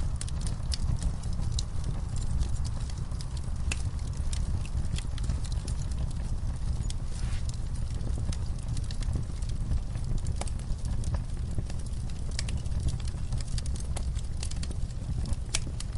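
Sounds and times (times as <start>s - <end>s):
wood fire roaring and crackling: 0.0s - 15.9s.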